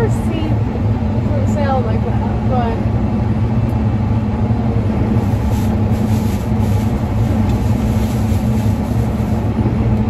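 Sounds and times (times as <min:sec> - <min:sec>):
tractor engine running under load: 0:00.0 - 0:10.0.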